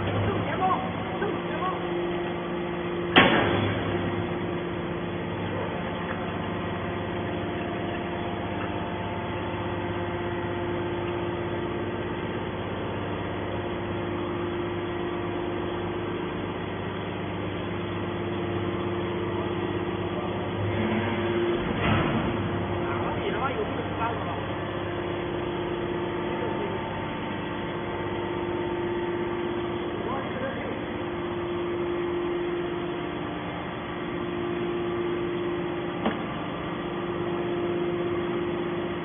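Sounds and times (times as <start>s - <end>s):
hydraulic baler humming: 0.0s - 39.0s.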